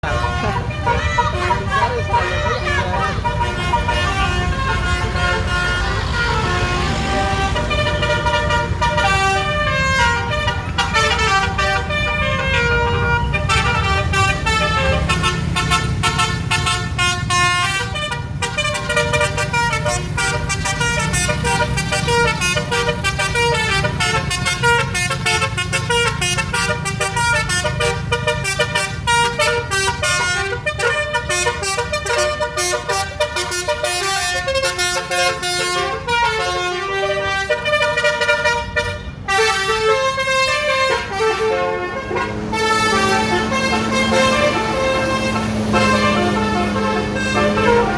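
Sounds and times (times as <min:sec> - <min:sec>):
multi-tone air horn melody: 0:00.0 - 0:47.9.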